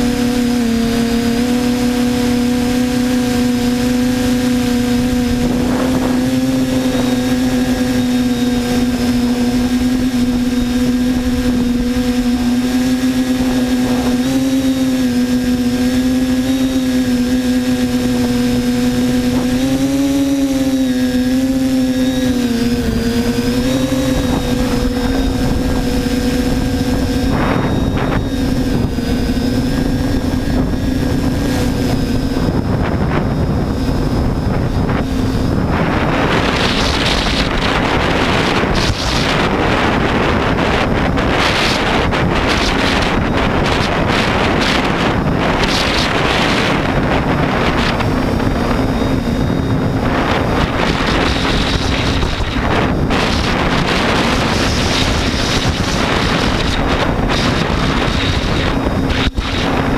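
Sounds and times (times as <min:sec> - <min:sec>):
drone motors and propellers whining: 0:00.0 - 0:59.9
wind noise: 0:00.0 - 0:59.9.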